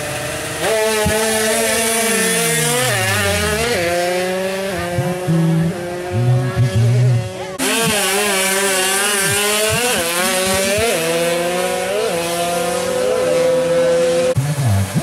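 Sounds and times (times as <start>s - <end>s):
motorbike engines running: 0.0s - 15.0s
two-stroke engine at full throttle: 0.0s - 15.0s.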